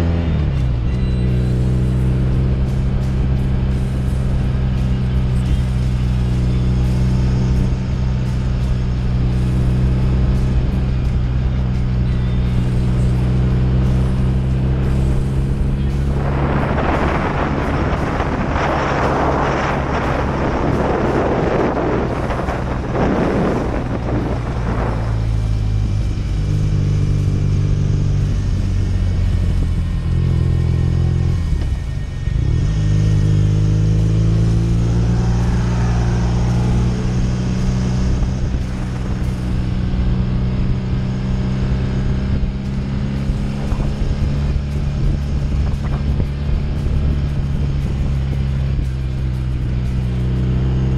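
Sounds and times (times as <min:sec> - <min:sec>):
motorcycle engine cruising: 0:00.0 - 0:50.9
heavy rock music: 0:00.6 - 0:30.1, 0:31.2 - 0:50.9.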